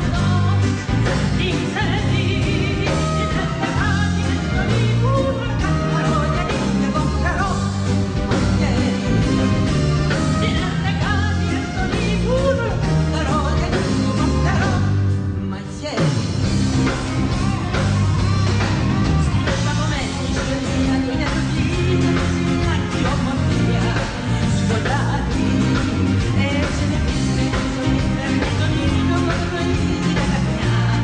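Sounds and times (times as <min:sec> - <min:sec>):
rock band playing: 0:00.0 - 0:31.0
woman singing: 0:00.0 - 0:31.0.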